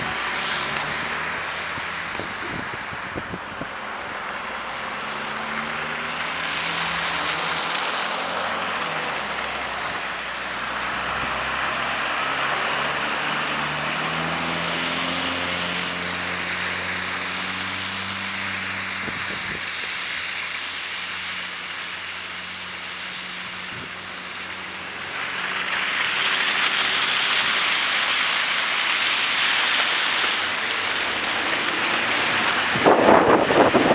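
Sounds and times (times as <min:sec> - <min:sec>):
tyres hissing on wet road: 0:00.0 - 0:33.9
vehicle engines pulling away: 0:00.0 - 0:33.9.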